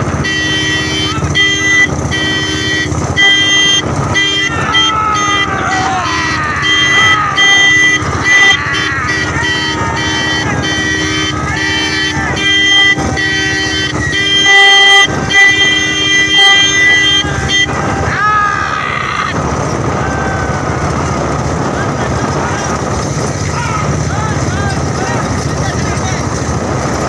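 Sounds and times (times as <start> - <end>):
vehicle horns honking: 0.0 - 26.5
motorcycle engine rumble: 0.0 - 27.0
people shouting: 0.4 - 25.7.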